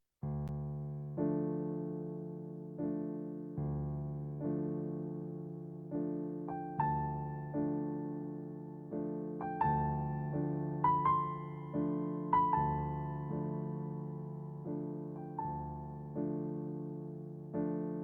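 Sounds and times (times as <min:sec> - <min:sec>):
soft piano chords: 0:00.2 - 0:18.0.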